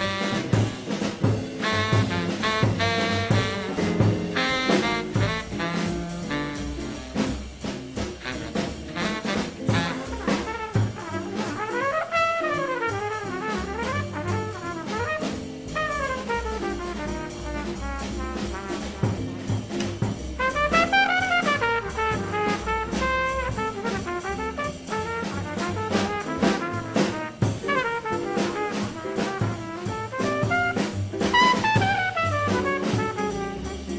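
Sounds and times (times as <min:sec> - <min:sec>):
double bass: 0:00.0 - 0:33.9
drums: 0:00.0 - 0:33.9
jazz horn fast runs: 0:00.0 - 0:33.9.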